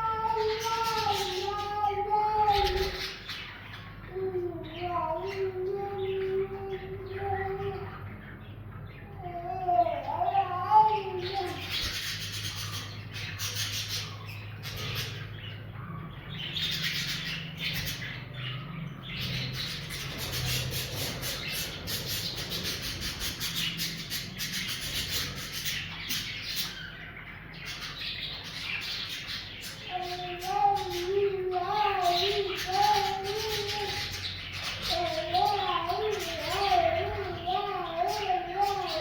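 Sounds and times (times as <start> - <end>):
budgies chattering and chirping: 0.0 - 39.0.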